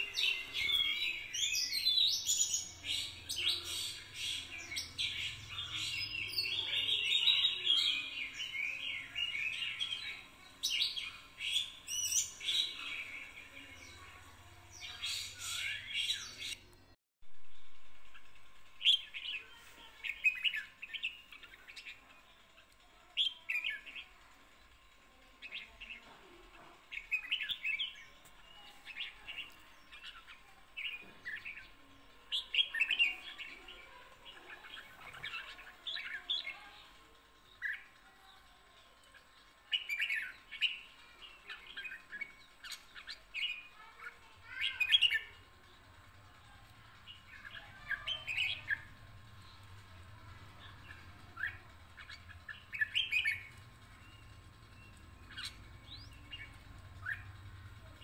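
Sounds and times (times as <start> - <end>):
songbirds chirping: 0.0 - 17.0, 17.6 - 58.0.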